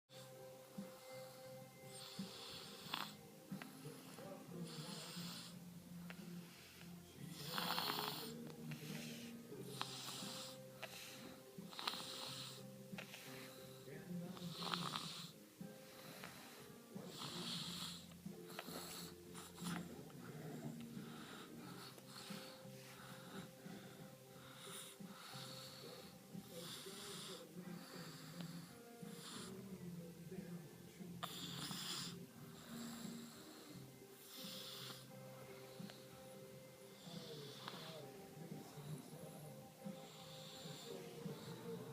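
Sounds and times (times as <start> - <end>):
hissing snores: 0.1 - 29.8, 31.2 - 41.9
quiet background music: 0.1 - 41.9.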